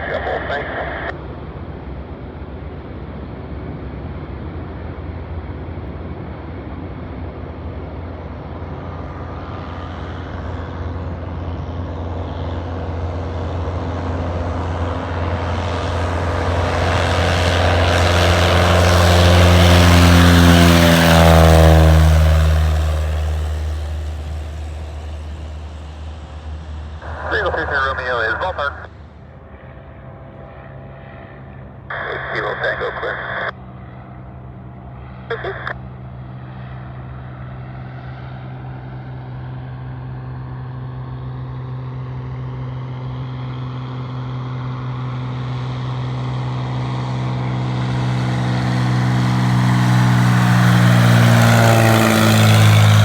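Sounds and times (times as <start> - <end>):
propeller airplane passing: 0.0 - 53.0.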